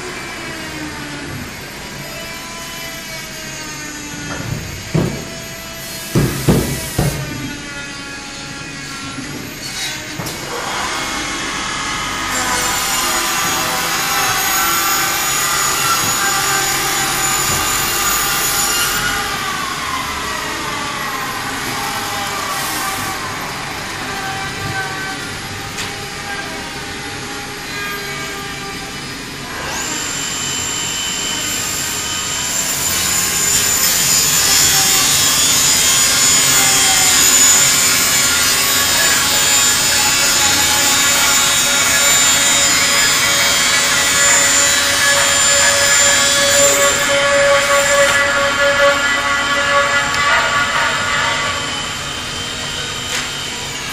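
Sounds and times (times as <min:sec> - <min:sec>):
saw motors whining: 0:00.0 - 0:53.9.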